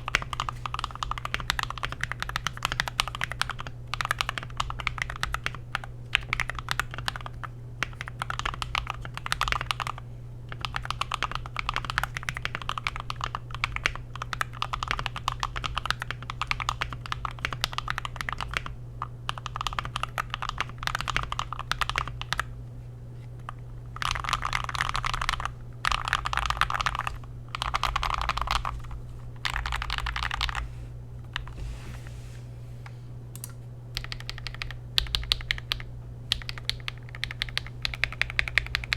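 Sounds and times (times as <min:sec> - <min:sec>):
fast keyboard typing: 0:00.0 - 0:22.5, 0:23.4 - 0:30.6, 0:34.0 - 0:38.9.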